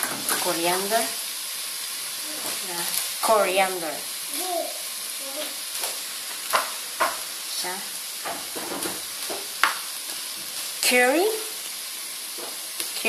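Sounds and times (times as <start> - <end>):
rice sizzling in a pot: 0.0 - 13.0.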